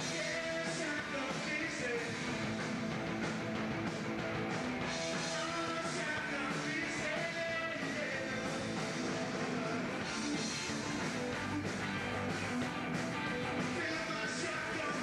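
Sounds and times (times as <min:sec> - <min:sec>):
electric guitars: 0:00.0 - 0:15.0.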